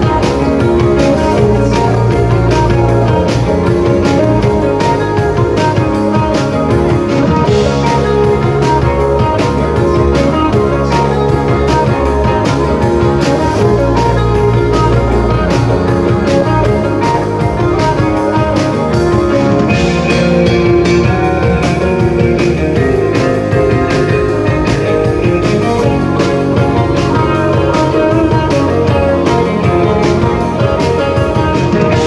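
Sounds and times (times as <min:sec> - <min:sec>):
guitar: 0:00.0 - 0:32.0
live rock band playing: 0:00.0 - 0:32.0
steady drum beat: 0:00.0 - 0:32.0.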